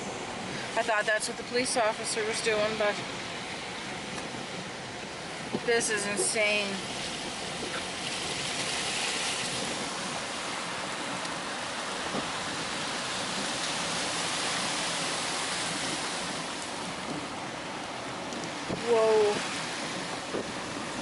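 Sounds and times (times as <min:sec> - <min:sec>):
heavy rain: 0:00.0 - 0:21.0
rushing floodwater: 0:00.0 - 0:21.0.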